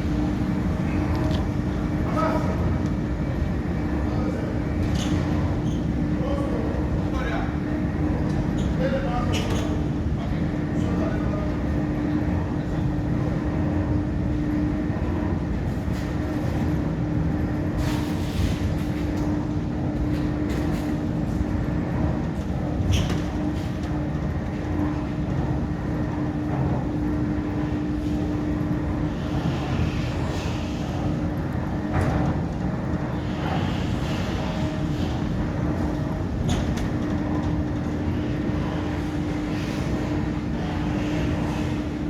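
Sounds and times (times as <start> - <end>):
low mechanical rumble: 0.0 - 9.2, 9.8 - 42.0
constant hum: 0.0 - 42.0.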